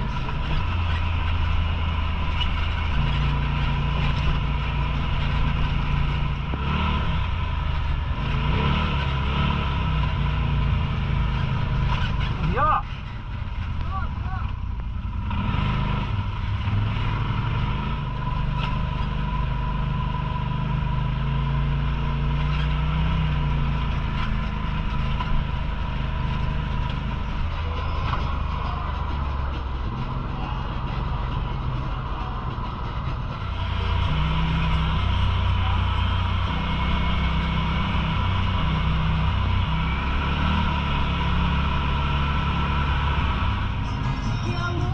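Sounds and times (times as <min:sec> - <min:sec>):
utility vehicle engine droning: 0:00.0 - 0:44.9.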